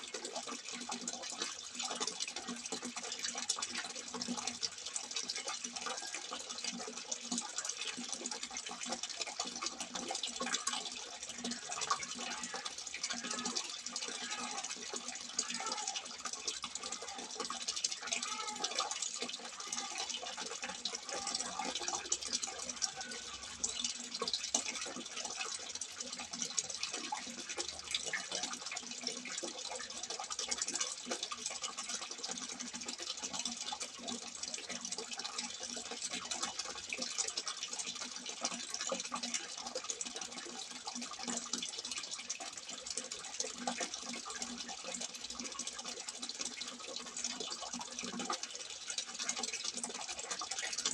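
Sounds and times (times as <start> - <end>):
water pouring from a spout: 0.0 - 50.9.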